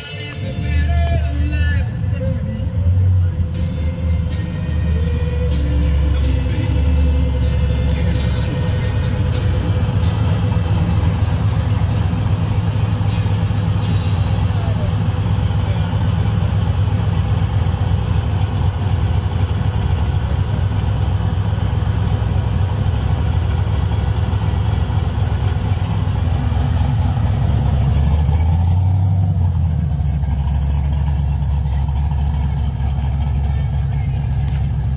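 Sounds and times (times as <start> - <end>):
car engine idling: 0.0 - 34.9
car pulling away: 0.0 - 34.9.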